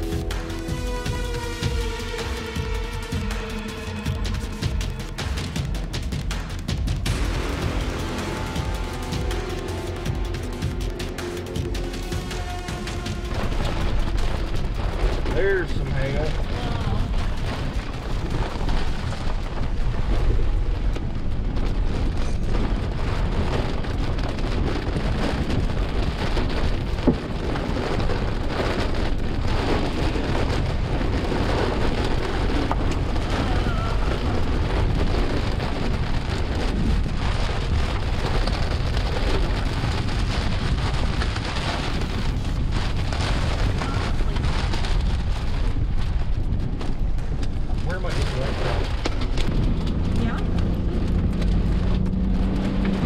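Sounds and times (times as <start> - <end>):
deep rumble: 0.0 - 53.0
rain falling: 0.0 - 53.0.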